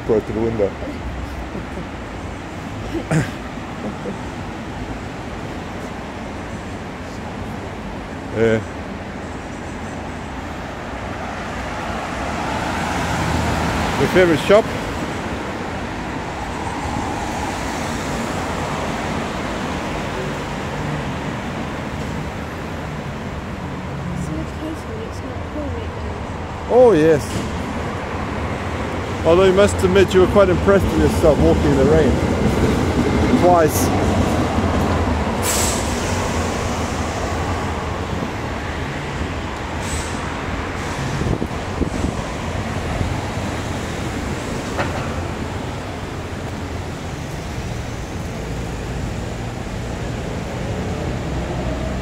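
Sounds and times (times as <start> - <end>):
moving vehicle rumble: 0.0 - 52.0
road traffic: 0.0 - 52.0.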